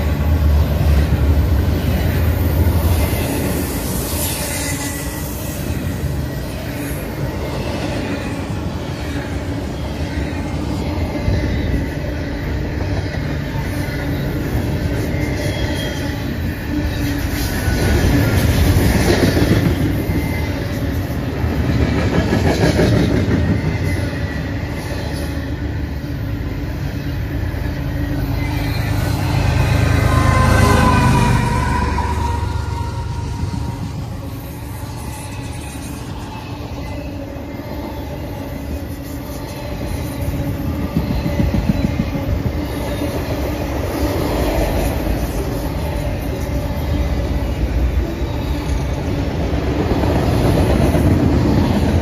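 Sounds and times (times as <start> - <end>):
freight train wheels rumbling on rails: 0.0 - 52.0.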